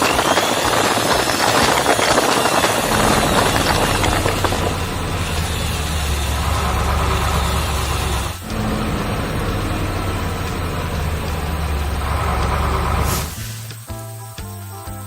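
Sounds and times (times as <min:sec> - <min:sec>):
heavy vehicle engine rumbling: 0:00.0 - 0:13.9.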